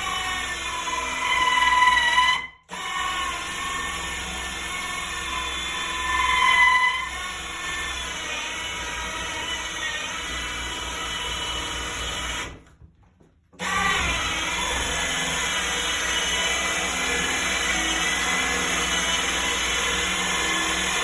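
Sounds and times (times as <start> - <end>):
electric drill with hole saw whining: 0.0 - 12.6, 13.6 - 21.0.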